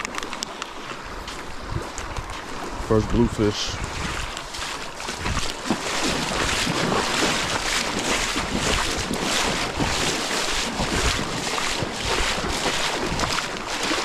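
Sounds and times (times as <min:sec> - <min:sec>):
surf rushing in shallows: 0:00.0 - 0:14.0
wind buffeting microphone: 0:01.0 - 0:14.0.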